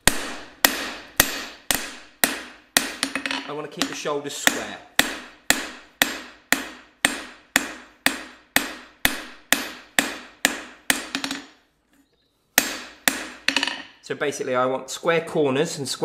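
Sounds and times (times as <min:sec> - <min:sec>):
hammer striking steel on anvil: 0:00.0 - 0:11.6, 0:12.6 - 0:13.9.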